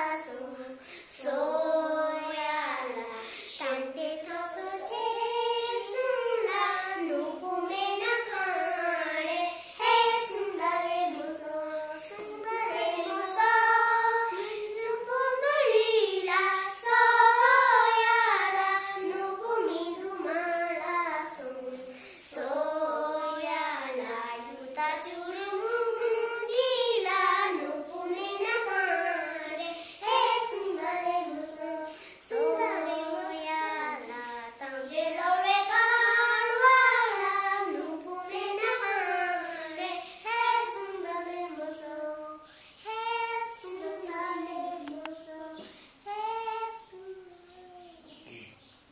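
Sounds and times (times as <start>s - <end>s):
children singing in unison: 0.0s - 48.9s.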